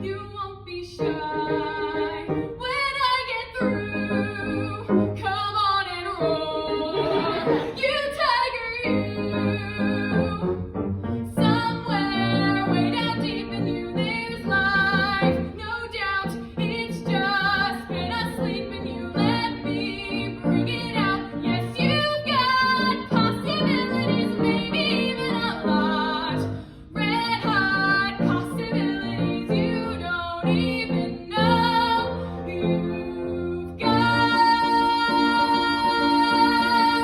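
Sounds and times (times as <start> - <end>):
woman singing with vibrato: 0.0 - 10.4, 11.2 - 37.0
instrumental accompaniment: 1.0 - 2.9, 8.8 - 37.0.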